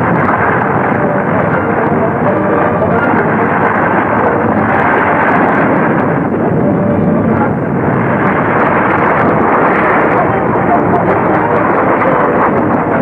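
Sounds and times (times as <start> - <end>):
explosion and rockslide rumble: 0.0 - 13.0.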